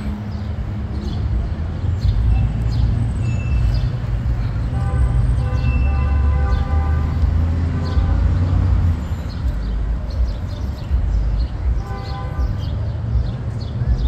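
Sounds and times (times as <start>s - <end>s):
heavy vehicle engine rumble: 0.0s - 14.0s.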